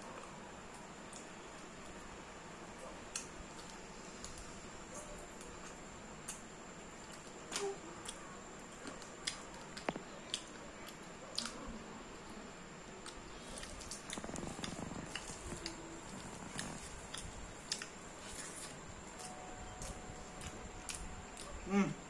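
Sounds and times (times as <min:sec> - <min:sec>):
man chewing food: 0:02.8 - 0:22.0.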